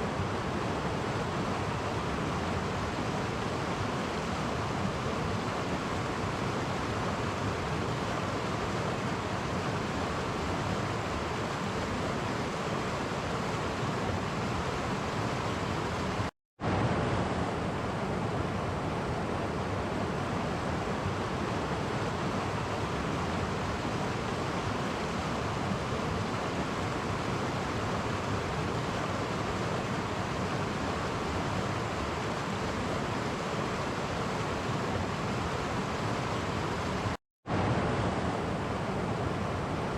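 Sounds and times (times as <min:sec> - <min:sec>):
stream rushing over cascades: 0:00.0 - 0:39.9.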